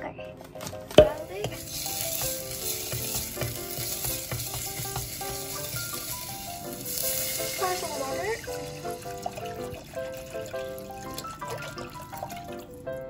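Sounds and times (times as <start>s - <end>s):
garlic sizzling in oil: 1.0s - 12.8s.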